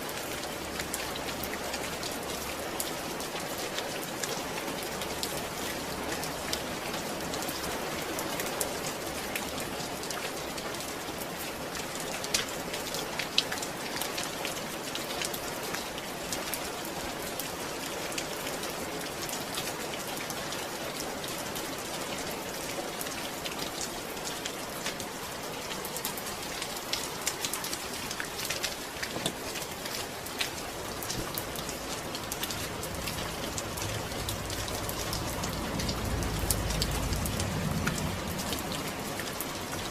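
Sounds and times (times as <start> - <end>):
raindrops ticking on surface: 0.0 - 39.9
steady rainfall: 0.0 - 39.9.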